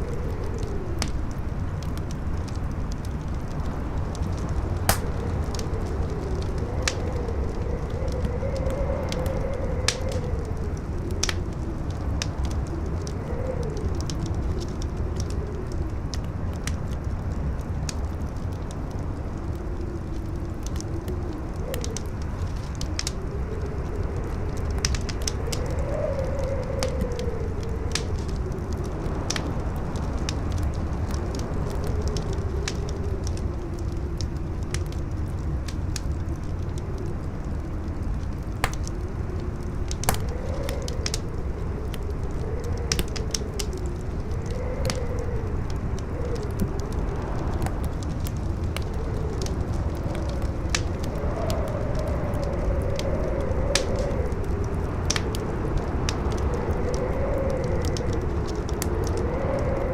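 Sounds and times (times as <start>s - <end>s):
howling wind: 0.0s - 59.9s
wood fire crackling and popping: 0.0s - 59.9s.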